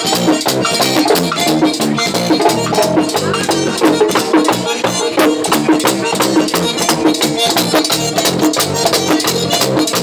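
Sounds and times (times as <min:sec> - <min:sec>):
electric guitars: 0:00.0 - 0:10.0
live band music: 0:00.0 - 0:10.0
two-headed drum beat: 0:00.0 - 0:10.0.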